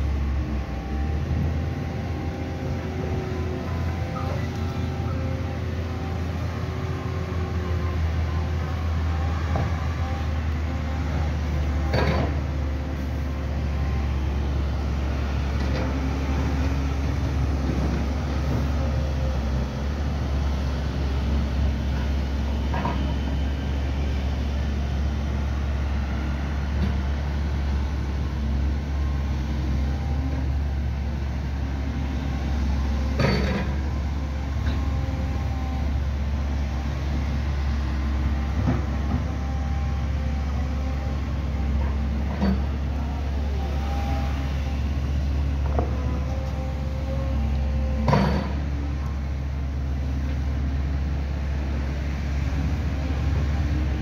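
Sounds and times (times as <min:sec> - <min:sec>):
diesel machinery rumble: 0:00.0 - 0:54.0.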